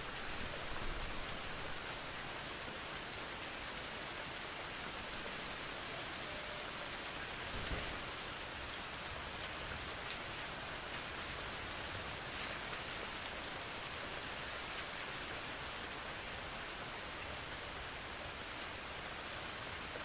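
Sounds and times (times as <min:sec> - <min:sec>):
rain hissing on surfaces: 0:00.0 - 0:20.0.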